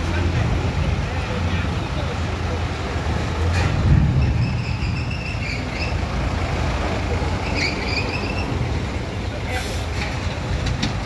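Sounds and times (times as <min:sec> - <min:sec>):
truck engines rumbling: 0:00.0 - 0:11.0.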